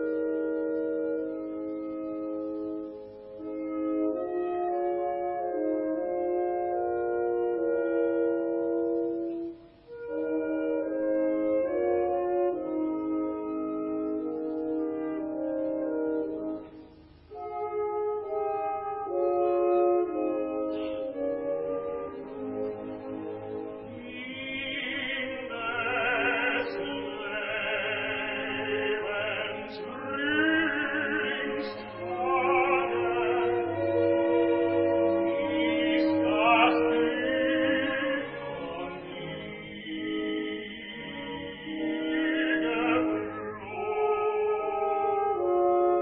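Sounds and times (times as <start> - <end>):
operatic tenor singing: 0.0 - 16.8, 17.4 - 46.0
orchestra playing: 0.0 - 46.0.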